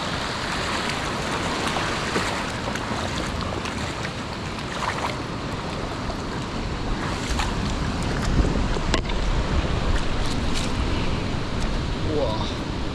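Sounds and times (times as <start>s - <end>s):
ocean surf washing on shore: 0.0s - 12.9s
wind rumbling on microphone: 0.0s - 12.9s.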